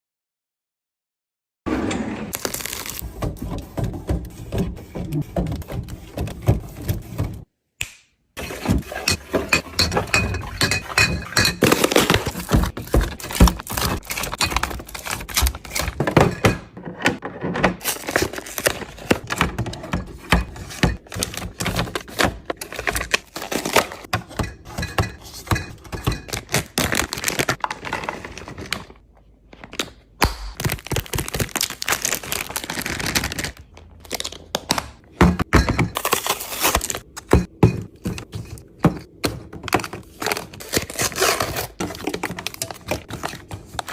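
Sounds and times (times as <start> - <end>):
food packets knocking and crackling: 2.3 - 7.5, 11.1 - 43.9.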